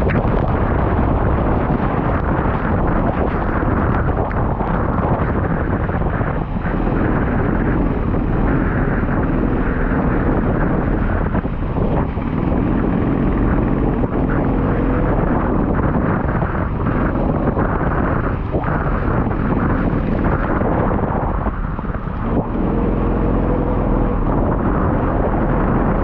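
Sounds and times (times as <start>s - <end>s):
go-kart engine running: 0.0s - 26.0s
wind buffeting microphone: 0.0s - 26.0s.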